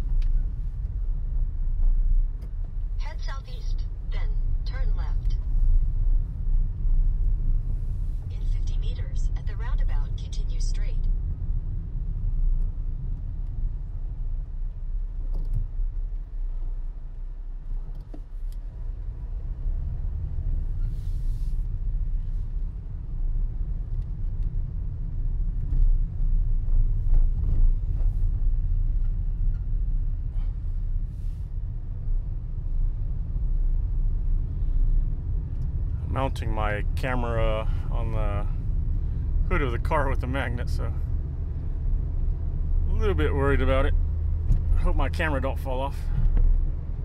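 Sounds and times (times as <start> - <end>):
car road and wind noise: 0.0 - 47.0.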